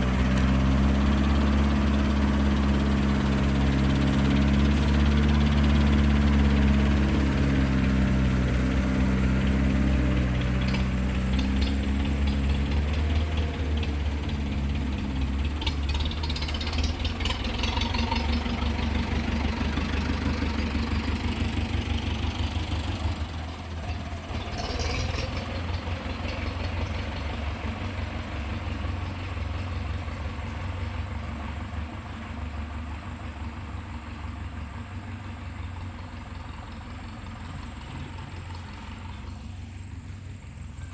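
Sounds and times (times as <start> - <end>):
heavy vehicle engine humming: 0.0 - 40.9.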